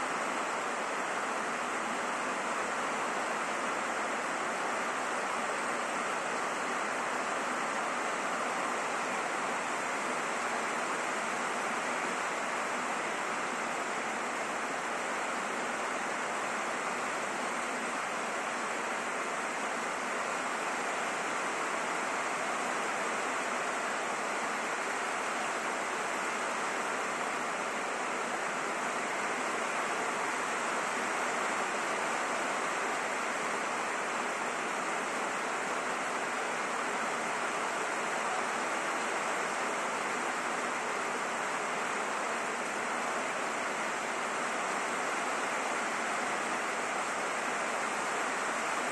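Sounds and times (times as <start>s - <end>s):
rain on a roof: 0.0s - 48.9s.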